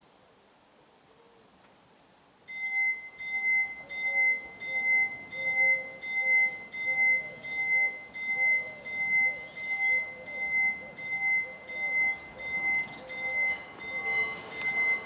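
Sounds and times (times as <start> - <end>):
level crossing warning bell ringing: 2.5 - 15.0.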